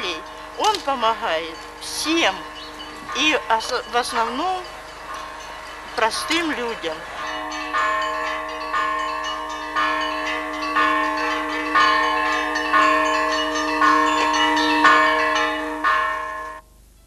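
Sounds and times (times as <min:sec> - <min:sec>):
church bells ringing: 0:00.0 - 0:16.6.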